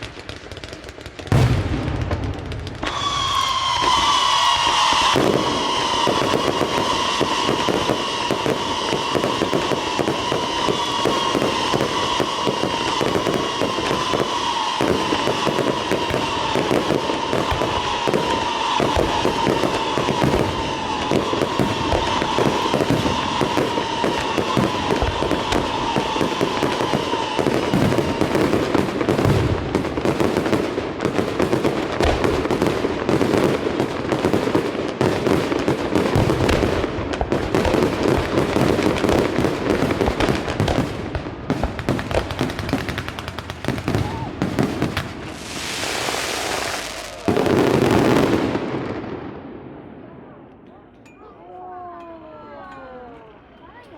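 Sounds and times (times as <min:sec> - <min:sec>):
fireworks crackling bangs: 0:00.0 - 0:50.4.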